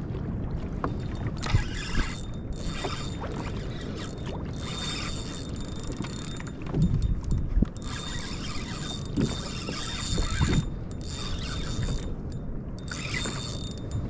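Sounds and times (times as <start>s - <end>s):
low rumble of water and wind: 0.0s - 14.0s
fishing reel clicking and whirring: 1.3s - 14.0s.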